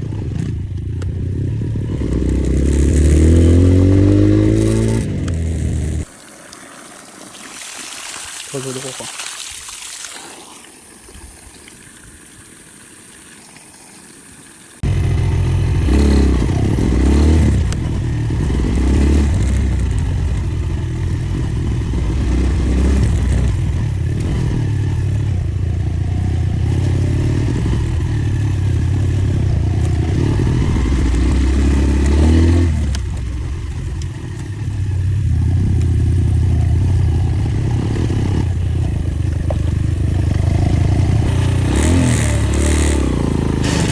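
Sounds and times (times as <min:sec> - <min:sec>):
motorcycle engine revving: 0:00.0 - 0:06.1, 0:14.8 - 0:43.9.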